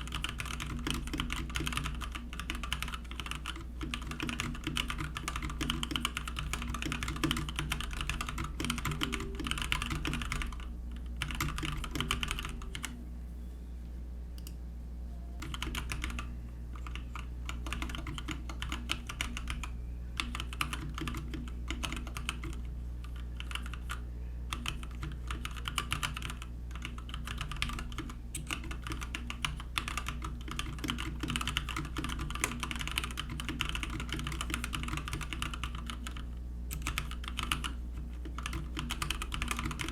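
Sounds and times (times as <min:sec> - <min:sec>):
mechanical keyboard typing: 0:00.0 - 0:13.0, 0:15.4 - 0:39.9
steady low hum: 0:00.0 - 0:39.9.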